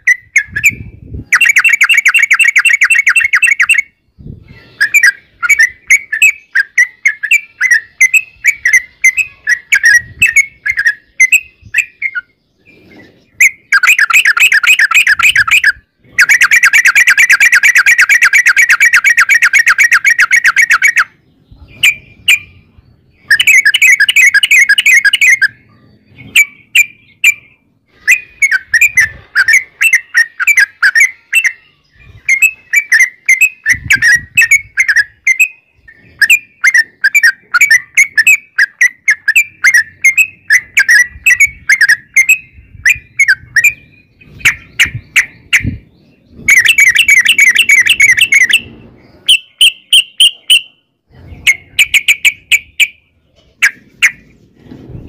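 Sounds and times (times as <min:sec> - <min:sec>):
bird singing with fast trills: 0:00.0 - 0:55.0.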